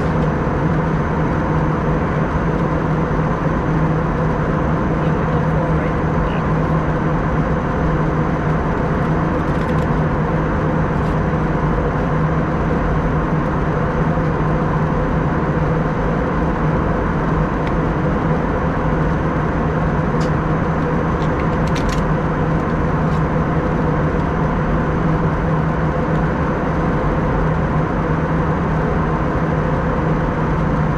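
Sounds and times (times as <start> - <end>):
airplane cabin engine drone: 0.0 - 30.9
steady hums: 0.0 - 30.9.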